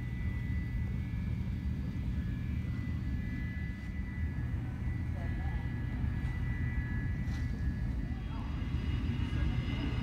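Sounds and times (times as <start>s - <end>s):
muffled jet engines running: 0.0s - 10.0s.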